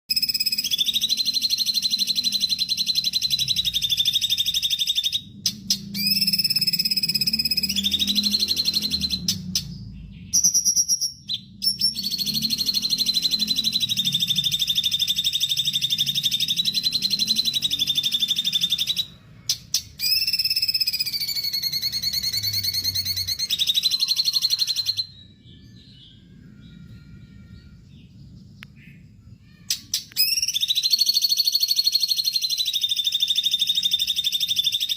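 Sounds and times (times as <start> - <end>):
faint bird chirps: 0.1 - 34.9.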